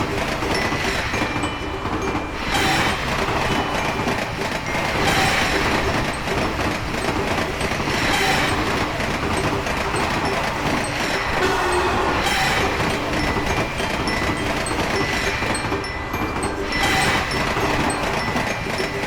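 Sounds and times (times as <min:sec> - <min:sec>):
train wheels clickety-clack: 0:00.0 - 0:19.0.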